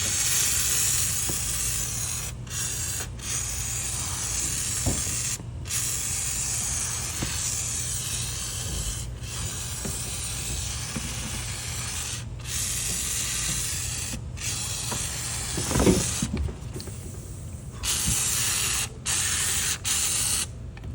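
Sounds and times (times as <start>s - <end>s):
foam sprayer hissing: 0.0s - 20.5s.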